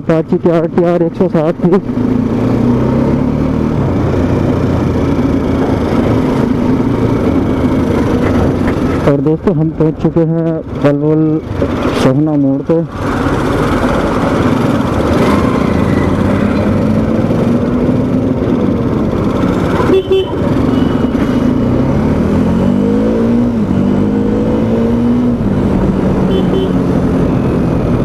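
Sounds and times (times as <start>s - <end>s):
road and wind noise: 0.0s - 28.0s
motorcycle engine revving: 0.5s - 28.0s.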